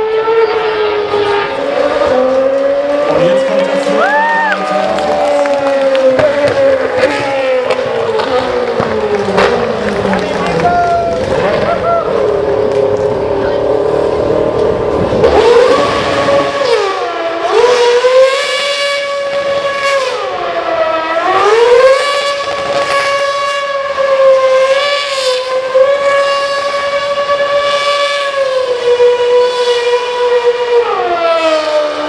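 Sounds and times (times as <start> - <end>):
racing car engine at high revs: 0.0 - 32.0.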